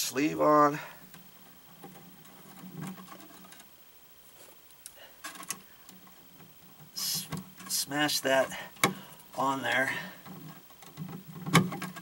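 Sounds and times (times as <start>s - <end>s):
wires clicking and scraping: 1.0s - 12.0s.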